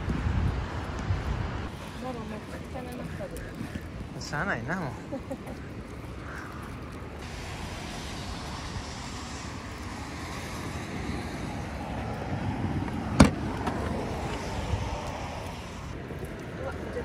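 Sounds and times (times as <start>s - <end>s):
road vehicle noise: 0.0s - 17.0s.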